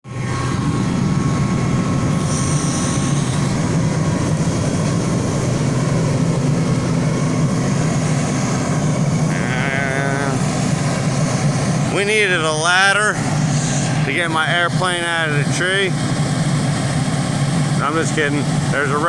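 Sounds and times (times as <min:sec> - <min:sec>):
diesel engine idling: 0:00.0 - 0:19.0
thin high whine: 0:00.1 - 0:16.8.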